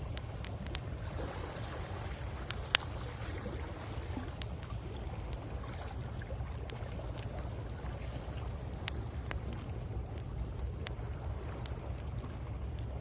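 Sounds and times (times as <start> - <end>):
bonfire crackling and popping: 0.0 - 13.0
waves on the shore: 0.0 - 13.0.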